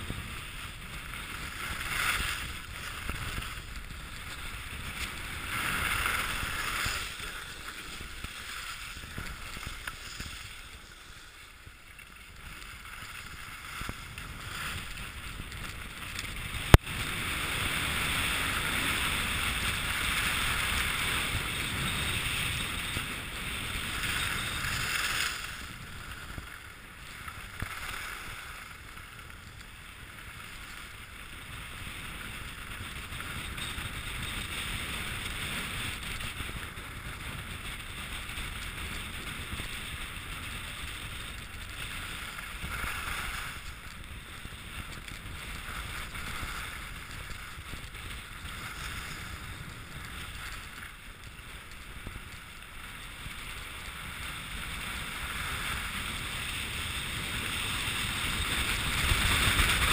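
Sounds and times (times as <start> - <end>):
skis scraping on snow: 0.0 - 59.9
wind on microphone: 0.0 - 59.9.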